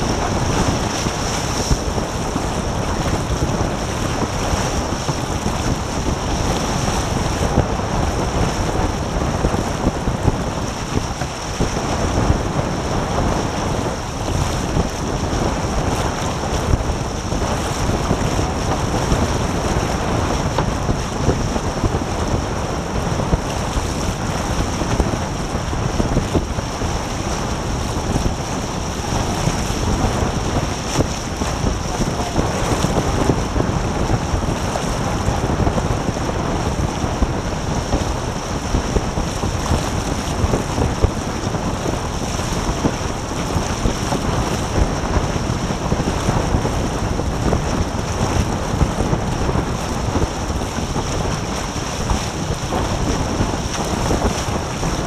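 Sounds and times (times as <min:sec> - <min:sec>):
water rushing past hulls: 0:00.0 - 0:55.0
wind buffeting microphone: 0:00.0 - 0:55.0.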